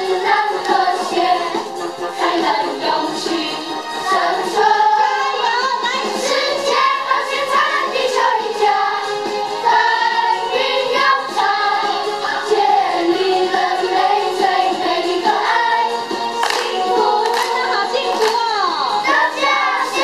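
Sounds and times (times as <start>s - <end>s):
backing track with steady beat: 0.0s - 20.0s
voices singing together: 0.0s - 20.0s.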